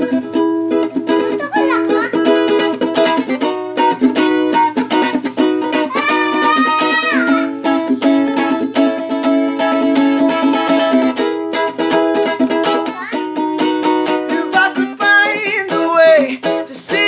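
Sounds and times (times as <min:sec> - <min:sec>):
string instrument strumming: 0:00.0 - 0:17.0.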